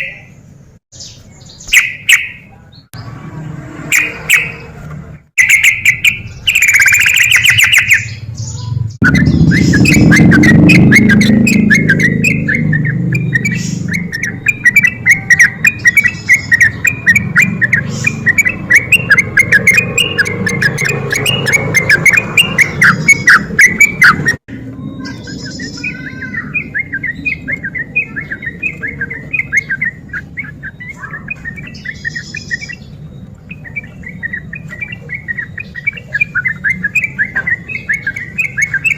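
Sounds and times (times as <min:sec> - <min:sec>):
bird chattering: 0:01.0 - 0:02.8, 0:03.9 - 0:04.8, 0:05.4 - 0:38.9.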